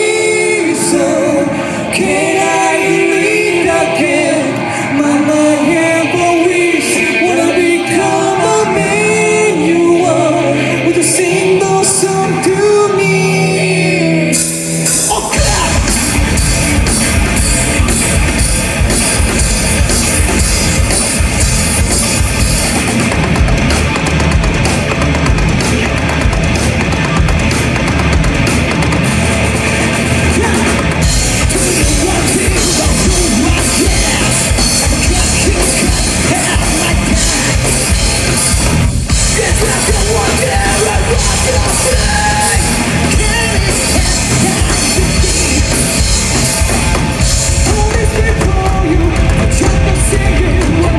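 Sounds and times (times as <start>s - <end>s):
heavy metal band playing live: 0.0s - 50.9s.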